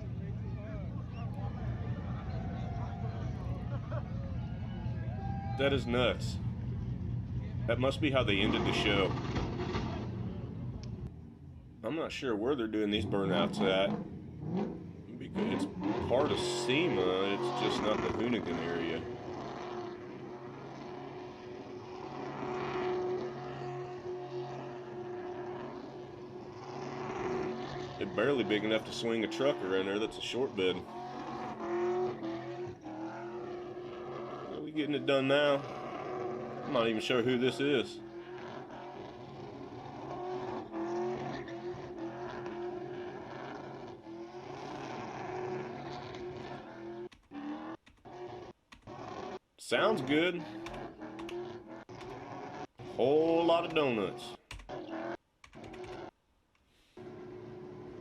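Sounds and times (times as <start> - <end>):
truck engine at high revs: 0.0 - 11.2, 12.5 - 56.2, 56.8 - 58.0.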